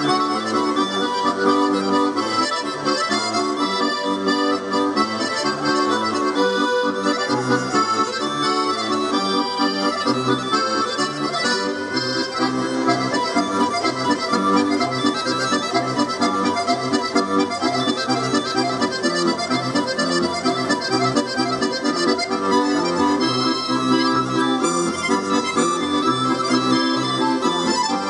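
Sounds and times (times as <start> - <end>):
button accordion playing: 0.0 - 28.0.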